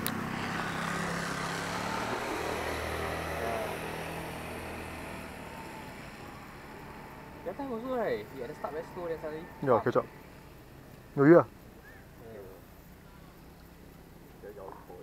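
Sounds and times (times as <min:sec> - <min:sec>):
engine low hum: 0:00.0 - 0:15.0.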